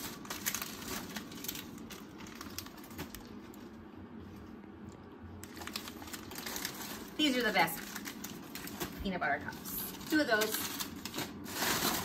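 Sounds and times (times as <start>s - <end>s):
snack wrappers crinkling: 0.0s - 3.8s, 4.7s - 12.0s.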